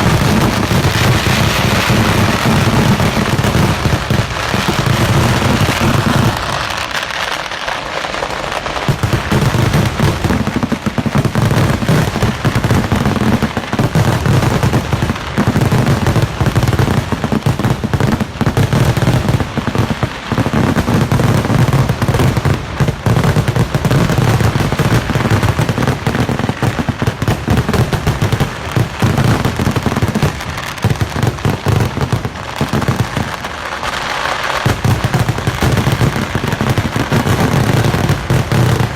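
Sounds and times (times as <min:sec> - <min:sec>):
firecrackers barrage: 0:00.0 - 0:38.9.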